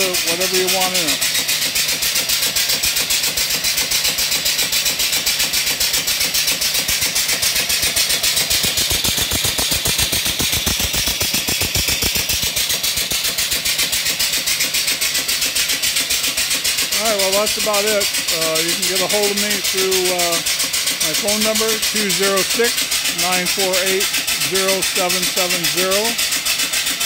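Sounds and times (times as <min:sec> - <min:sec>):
steam engine exhaust chuffs: 0:00.0 - 0:27.0.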